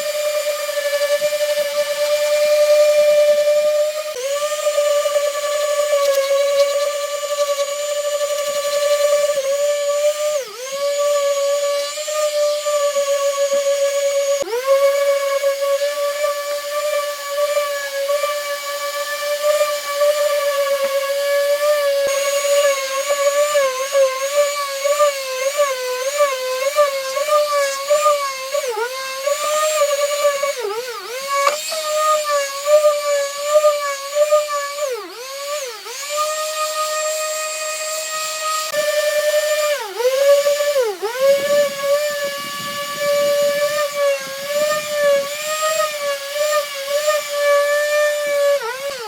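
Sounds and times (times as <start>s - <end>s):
power tool motor whining: 0.0s - 49.0s.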